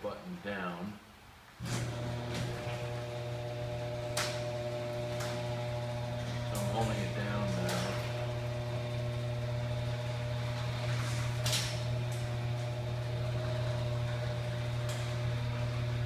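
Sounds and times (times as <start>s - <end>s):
garage door opener motor humming: 1.6s - 16.0s.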